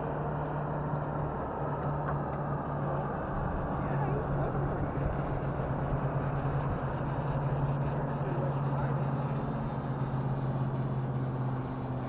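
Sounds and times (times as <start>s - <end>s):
outboard motor humming: 0.0s - 12.0s.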